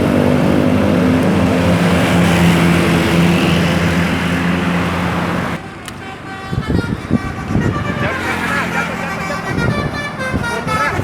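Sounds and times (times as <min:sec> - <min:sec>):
bus engine running: 0:00.0 - 0:11.0
road traffic noise: 0:00.0 - 0:11.0.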